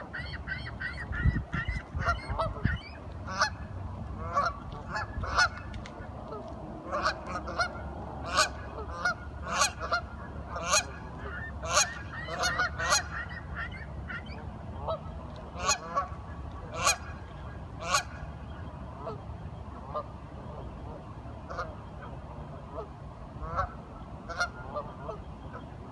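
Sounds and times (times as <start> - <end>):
ducks quacking: 0.0 - 25.9.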